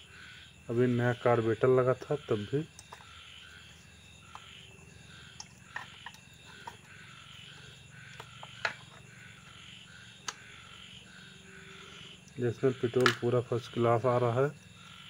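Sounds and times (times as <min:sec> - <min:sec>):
frogs and crickets calling: 0:00.0 - 0:15.0.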